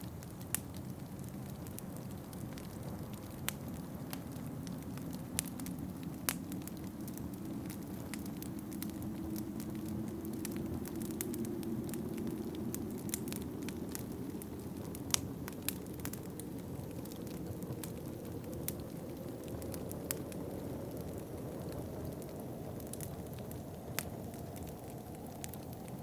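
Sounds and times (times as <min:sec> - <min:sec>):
low rush of wind: 0:00.0 - 0:26.0
wood fire crackling and popping: 0:00.0 - 0:26.0.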